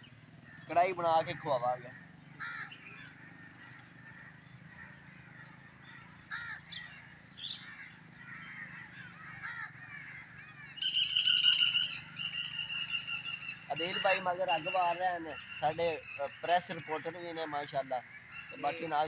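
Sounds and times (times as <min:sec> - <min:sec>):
faint bird chirps: 0:00.0 - 0:19.0
harsh bird squawk: 0:00.0 - 0:19.0.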